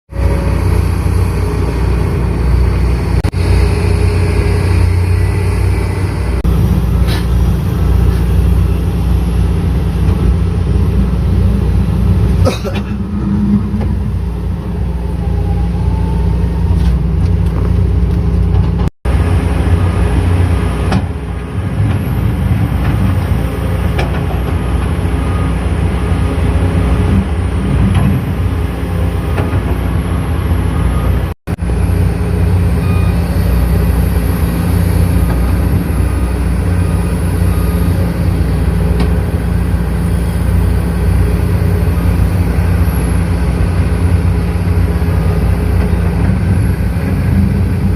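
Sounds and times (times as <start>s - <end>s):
heavy diesel engine running: 0.1s - 47.9s.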